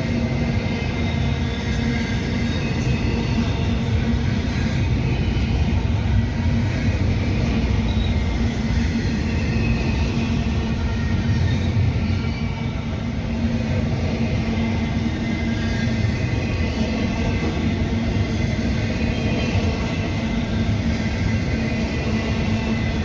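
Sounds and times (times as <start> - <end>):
train rumbling past on track: 0.0 - 23.0.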